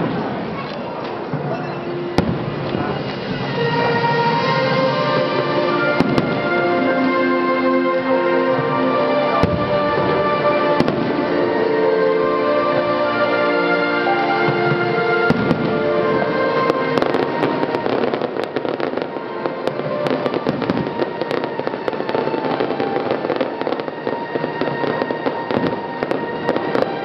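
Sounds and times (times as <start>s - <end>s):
fireworks bursting and crackling: 0.0s - 27.0s
music with held notes: 0.0s - 27.0s.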